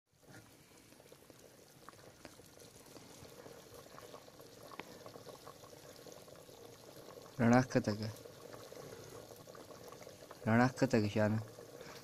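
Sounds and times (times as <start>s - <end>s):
fire clicks and crackles: 0.1s - 12.0s
pot simmering over fire: 0.1s - 12.0s.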